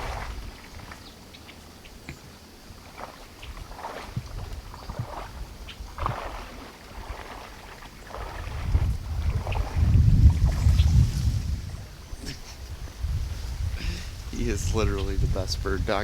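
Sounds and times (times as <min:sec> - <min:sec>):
water splashing and sloshing: 0:00.0 - 0:13.6.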